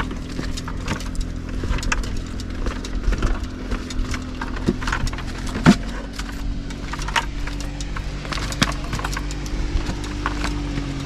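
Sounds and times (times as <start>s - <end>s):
clacks and knocks: 0.0s - 11.0s
footsteps on paved path: 0.0s - 11.0s
steady low hum: 0.0s - 11.0s.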